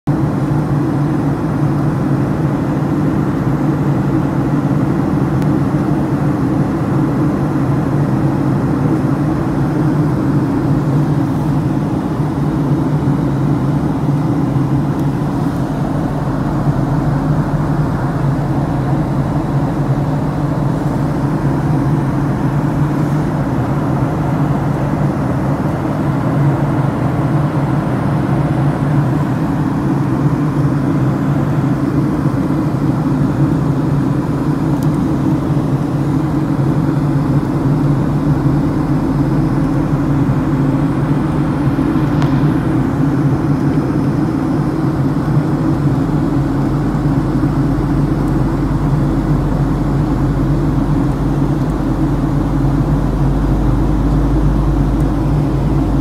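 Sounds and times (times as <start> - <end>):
airliner cabin drone: 0.1 - 56.0.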